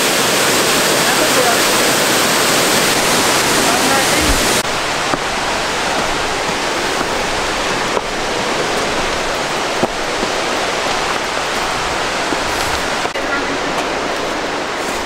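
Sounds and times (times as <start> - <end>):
flowing water rushing: 0.0 - 15.0
footsteps on timber steps: 2.9 - 15.0.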